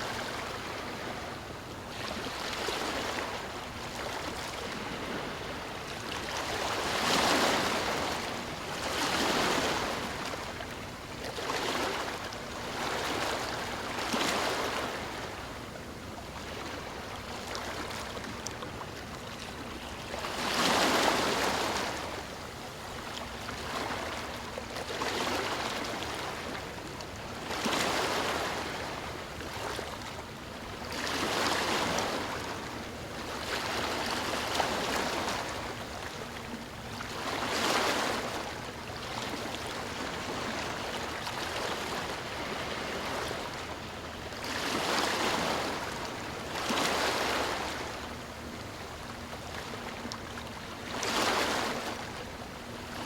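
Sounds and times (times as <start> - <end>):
ocean waves washing onto shore: 0.0 - 53.0.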